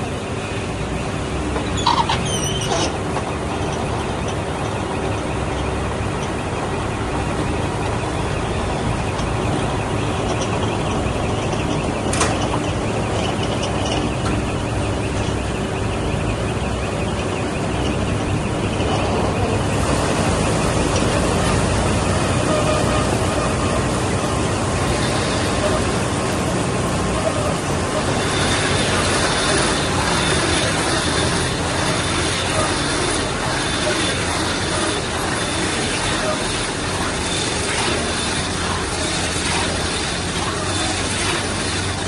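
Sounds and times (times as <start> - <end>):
machine engine running: 0.0 - 42.0
high squeal: 1.6 - 42.0.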